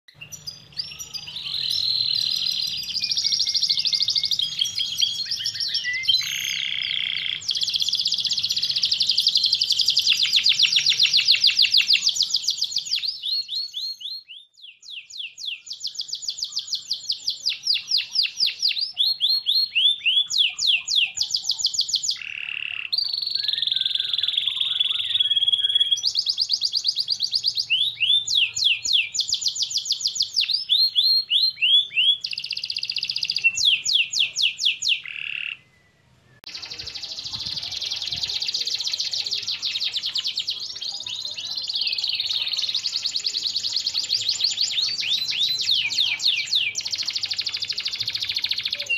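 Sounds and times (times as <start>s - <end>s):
canary singing trills: 0.1s - 48.9s.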